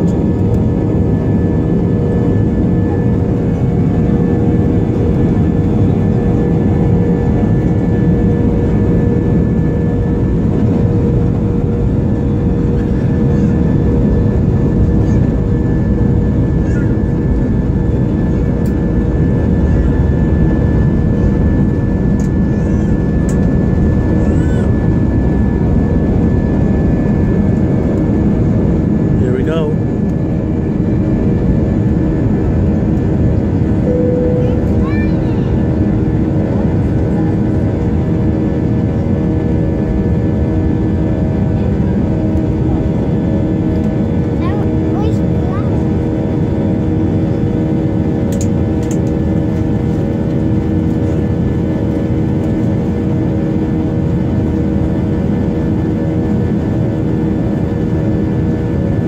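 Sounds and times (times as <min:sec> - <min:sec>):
jet engine whine: 0:00.0 - 0:59.0
jet engines low rumble: 0:00.0 - 0:59.0.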